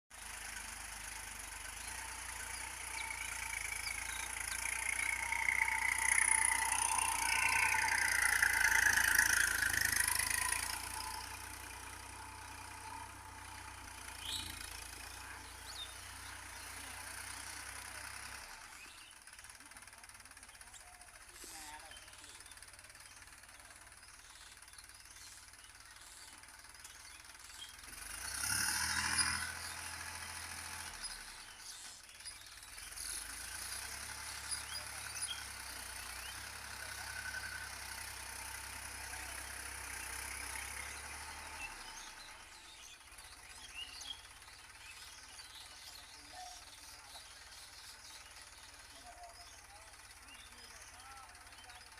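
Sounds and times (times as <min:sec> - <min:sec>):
tractor engine running: 0:00.1 - 0:51.9.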